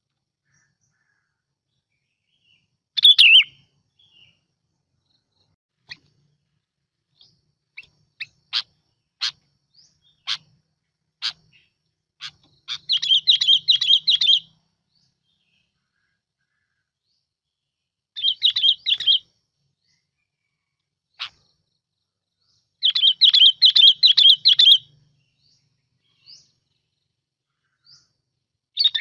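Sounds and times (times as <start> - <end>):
bulbul singing: 2.0 - 6.5, 7.1 - 17.3, 18.2 - 20.2, 21.1 - 29.0.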